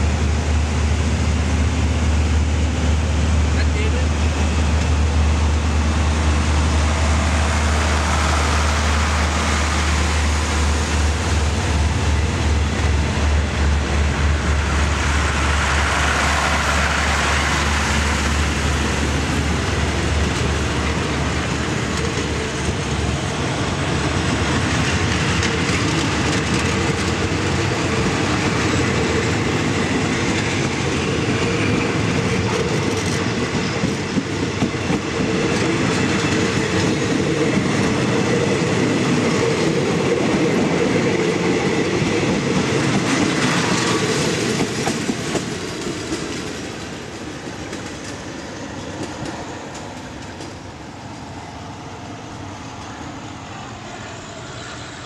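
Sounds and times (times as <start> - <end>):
diesel locomotive engine drone: 0.0 - 55.0
train wheels clattering on rails: 3.6 - 53.2.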